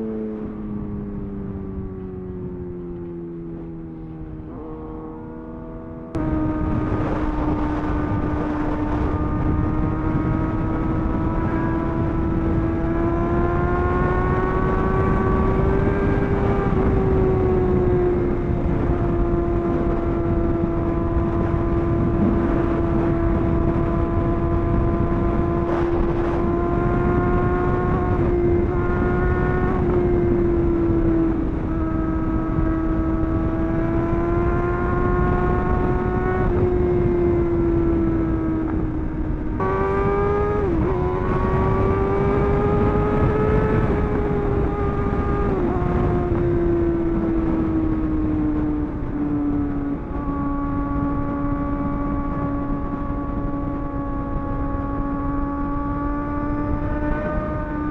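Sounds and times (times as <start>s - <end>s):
motorcycle engine cruising: 0.0s - 57.9s
wind noise: 0.0s - 57.9s.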